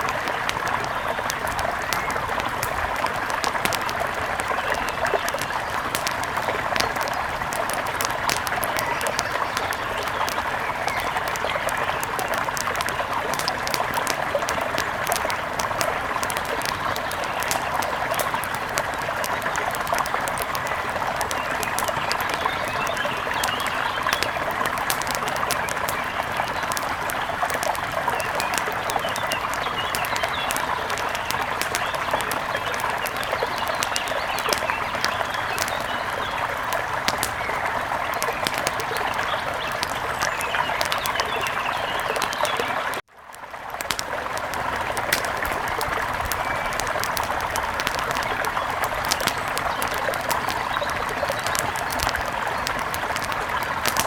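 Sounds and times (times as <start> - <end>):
birds chirping: 0.0 - 43.0, 43.8 - 54.0
wood fire crackling: 0.0 - 54.0.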